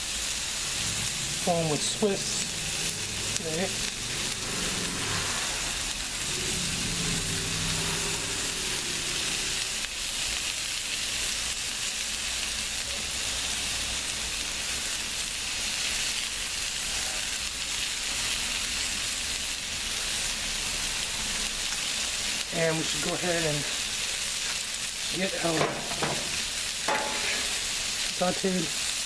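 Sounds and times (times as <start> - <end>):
burgers sizzling on a griddle: 0.0 - 29.0.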